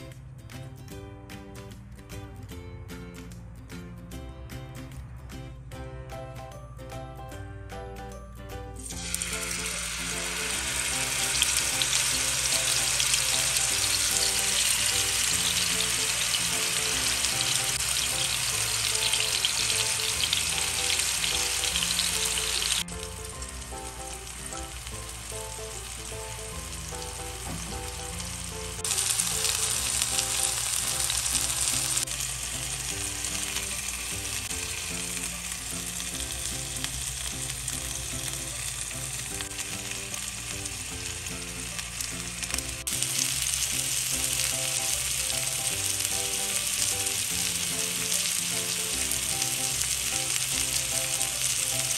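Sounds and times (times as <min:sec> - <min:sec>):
soft background music: 0:00.0 - 0:51.9
chicken sizzling in hot oil: 0:08.8 - 0:51.9.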